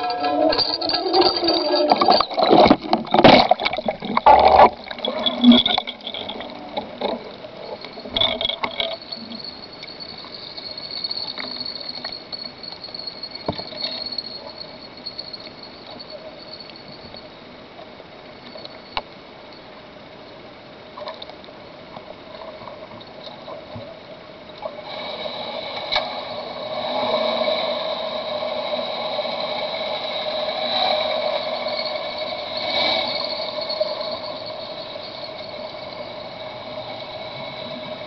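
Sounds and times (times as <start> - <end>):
faint steady high whine: 0.0 - 38.0.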